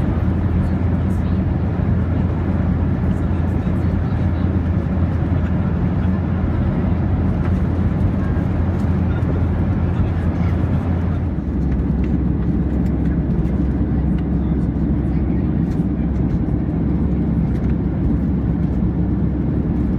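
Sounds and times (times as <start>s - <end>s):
airplane cabin rumble: 0.0s - 19.9s.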